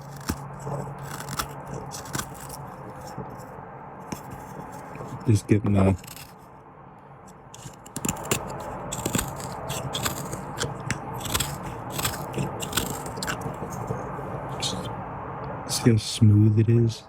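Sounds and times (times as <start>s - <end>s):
blade shaving wood: 0.0s - 6.5s, 7.6s - 14.9s.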